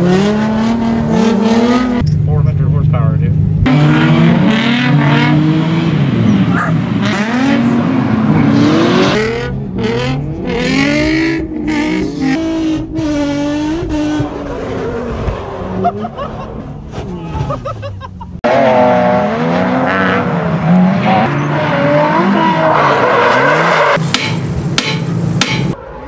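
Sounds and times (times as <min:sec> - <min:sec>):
car engines revving: 0:00.0 - 0:26.0
tyres skidding: 0:00.0 - 0:26.0.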